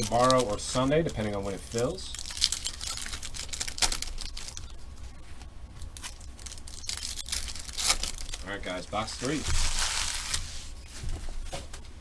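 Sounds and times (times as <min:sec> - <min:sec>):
packaging tearing and crinkling: 0:00.0 - 0:04.9, 0:05.8 - 0:10.7.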